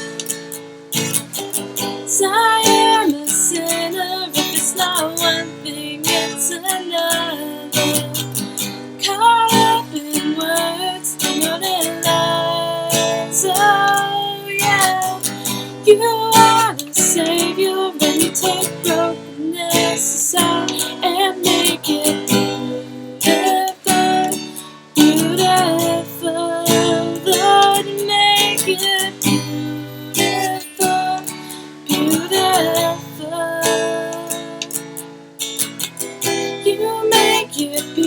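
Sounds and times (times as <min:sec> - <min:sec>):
strummed acoustic guitar: 0:00.0 - 0:38.0
woman singing: 0:02.0 - 0:35.1, 0:36.3 - 0:38.0.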